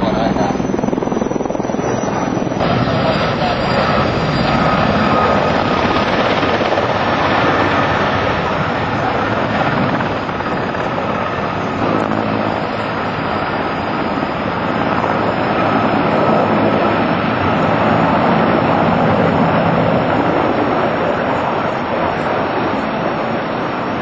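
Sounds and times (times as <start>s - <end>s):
helicopter flying low overhead: 0.0s - 24.0s.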